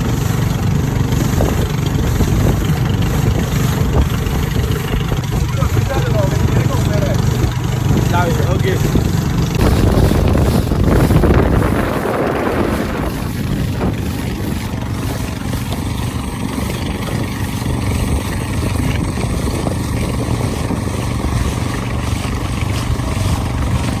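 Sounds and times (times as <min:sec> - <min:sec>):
low motor drone: 0:00.0 - 0:24.0.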